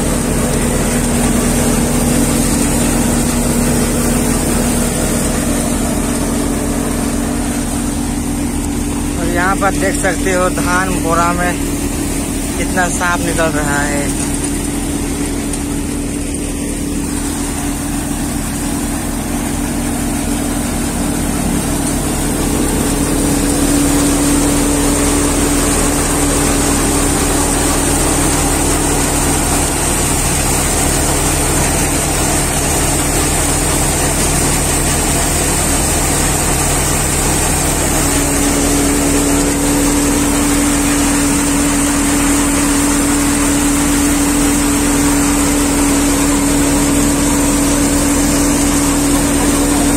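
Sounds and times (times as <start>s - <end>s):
thresher machine humming: 0.0s - 49.9s.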